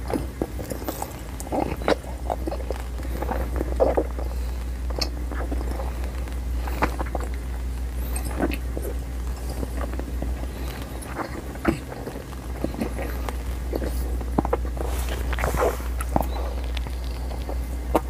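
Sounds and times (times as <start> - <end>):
chewing gum smacks and clicks: 0.0 - 18.0
steady low hum: 0.0 - 18.0.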